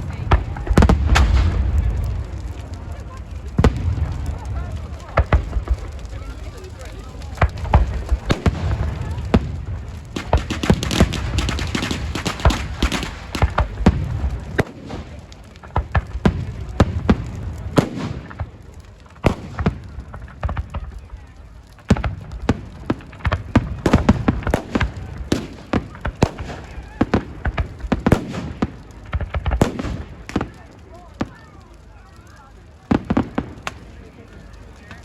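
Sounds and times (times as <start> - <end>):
crowd voices: 0.0 - 35.0
fireworks banging and crackling: 0.0 - 35.0.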